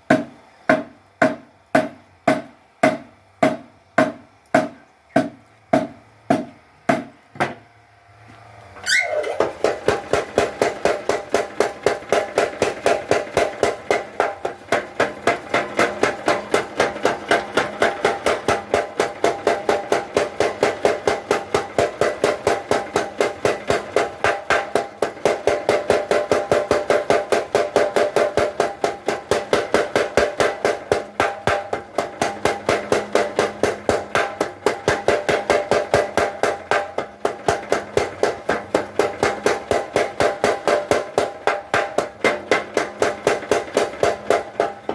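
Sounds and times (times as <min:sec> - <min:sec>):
power hammer pounding steel: 0:00.0 - 0:07.6, 0:08.9 - 0:44.9.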